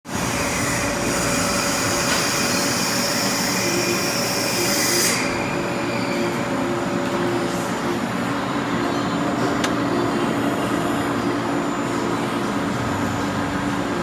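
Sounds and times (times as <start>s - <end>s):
metalworking machine running: 0.1s - 14.0s.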